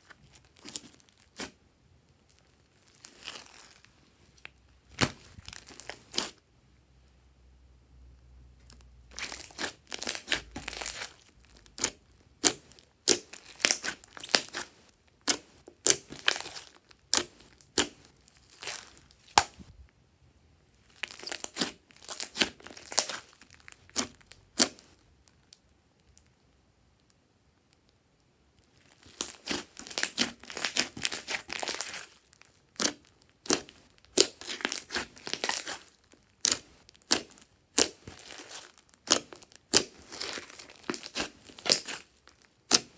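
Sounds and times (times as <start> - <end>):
slime crackling and popping: 0.2 - 1.6, 2.3 - 6.4, 8.6 - 19.7, 20.9 - 26.3, 28.6 - 42.9.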